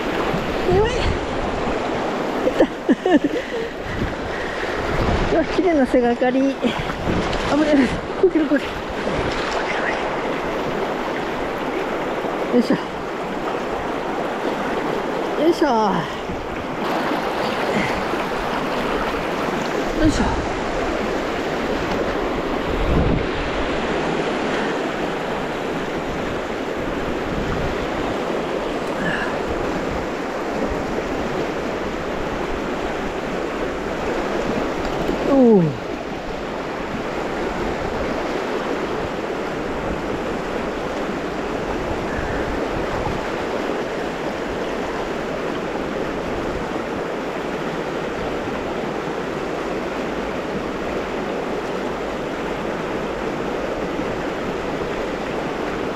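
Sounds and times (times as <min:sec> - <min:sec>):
river rapids rushing: 0:00.0 - 0:55.9.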